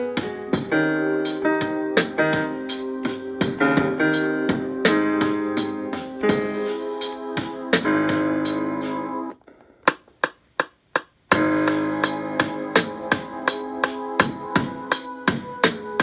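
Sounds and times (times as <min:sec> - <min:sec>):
electric piano chords: 0:00.0 - 0:09.4, 0:11.3 - 0:16.0.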